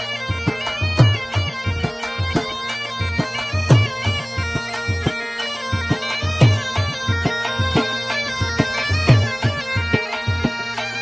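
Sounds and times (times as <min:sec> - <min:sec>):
reedy pipe melody: 0:00.0 - 0:11.0.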